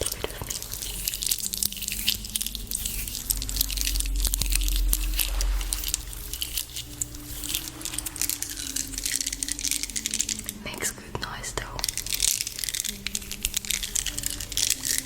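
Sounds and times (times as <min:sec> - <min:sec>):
low steady hum: 0:00.0 - 0:15.0
plastic beads clicking and rattling: 0:00.0 - 0:15.0.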